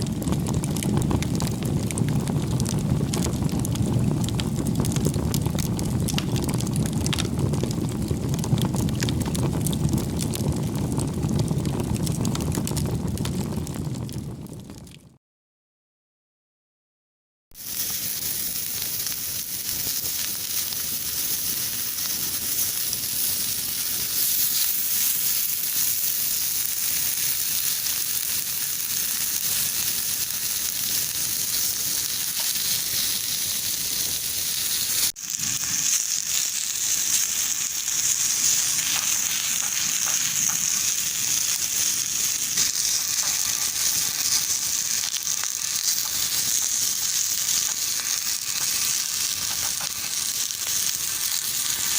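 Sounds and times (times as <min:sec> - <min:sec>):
meat sizzling on griddle: 0:00.0 - 0:12.5, 0:17.6 - 0:51.9.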